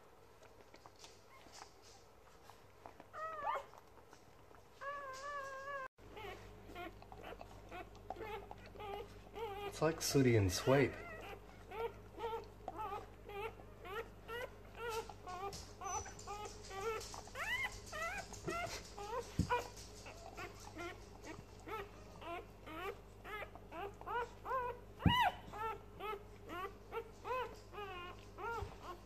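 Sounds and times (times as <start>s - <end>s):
puppies squeaking and whimpering: 0.6s - 29.0s.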